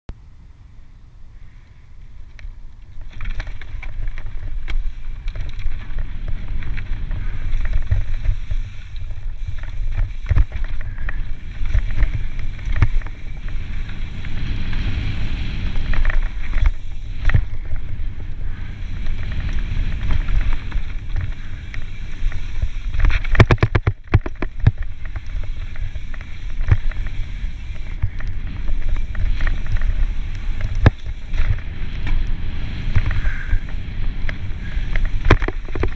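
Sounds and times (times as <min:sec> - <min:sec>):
bike tyres on dirt: 0:00.1 - 0:35.9
wind on microphone: 0:01.3 - 0:35.9
bike knocks and rattles: 0:02.2 - 0:35.9.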